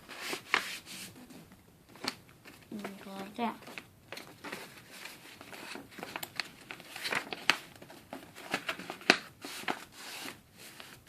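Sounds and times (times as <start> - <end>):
paper rustling and crinkling: 0.0 - 1.2, 1.9 - 11.0.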